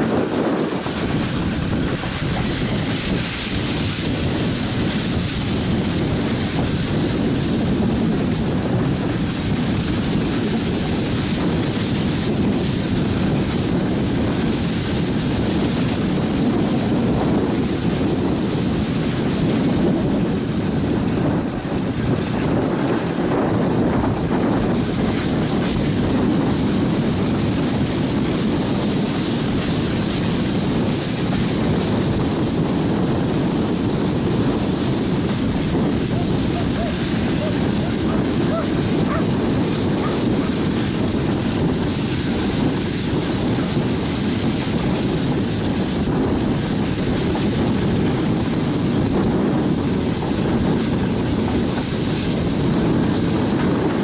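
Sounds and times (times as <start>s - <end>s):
steam train rumbling: 0.0s - 54.0s
wind buffeting microphone: 0.0s - 54.0s.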